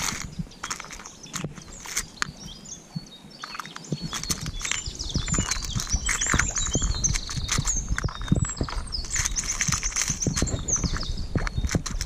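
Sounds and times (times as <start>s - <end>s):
metal lures clicking in plastic box: 0.0s - 2.3s, 3.4s - 12.0s
songbird singing: 0.0s - 12.0s.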